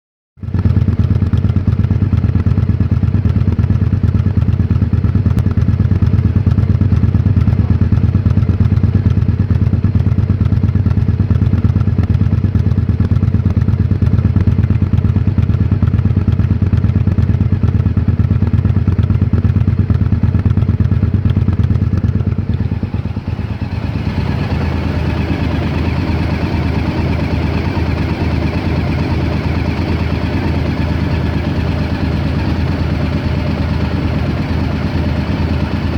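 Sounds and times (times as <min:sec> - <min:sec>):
motorcycle engine idling roughly: 0:00.4 - 0:35.9.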